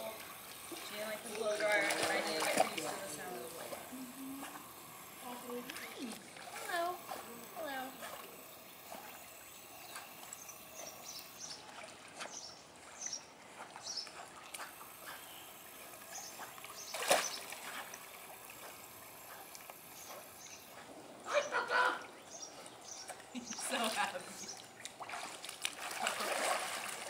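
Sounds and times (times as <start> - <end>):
water lapping and splashing: 0.0 - 27.0.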